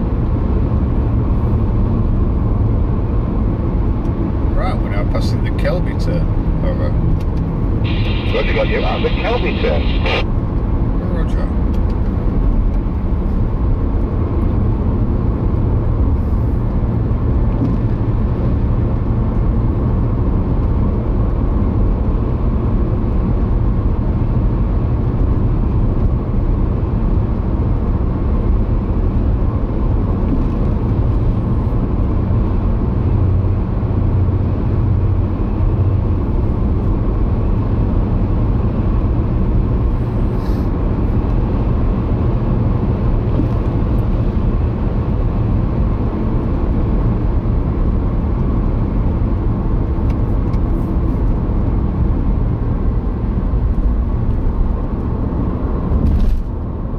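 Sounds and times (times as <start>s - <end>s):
tyres and engine rumble: 0.0s - 56.9s.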